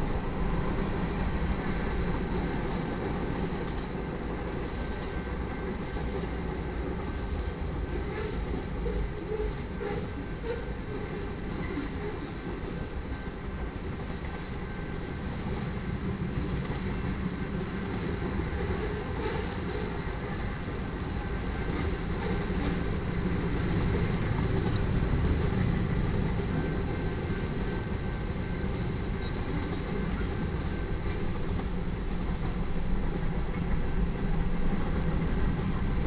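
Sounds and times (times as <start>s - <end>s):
freight train rolling past: 0.0s - 36.0s
steel wheels clattering on rail: 0.0s - 36.0s.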